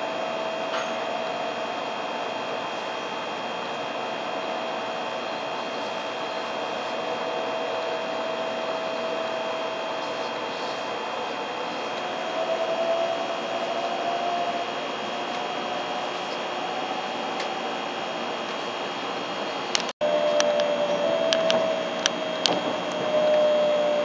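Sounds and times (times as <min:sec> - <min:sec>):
humming tone: 0:00.0 - 0:18.6, 0:20.0 - 0:24.0
train interior rushing noise: 0:00.0 - 0:24.0.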